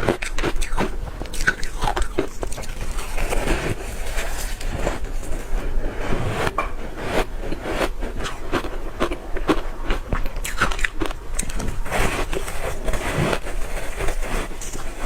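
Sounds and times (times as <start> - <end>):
ice chunks being chewed: 0.0 - 15.0.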